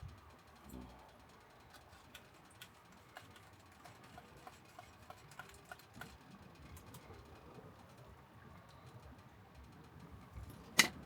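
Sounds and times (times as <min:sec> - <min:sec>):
short evenly spaced ticks: 0:00.0 - 0:11.0
faint clicks: 0:00.1 - 0:11.0.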